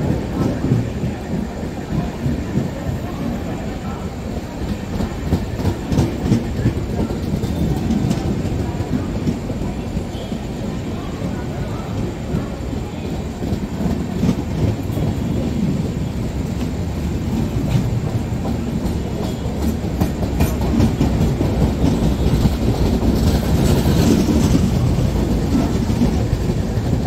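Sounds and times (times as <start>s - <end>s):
train coaches rumbling past: 0.0s - 27.0s
wheels clattering over rail joints: 0.0s - 27.0s.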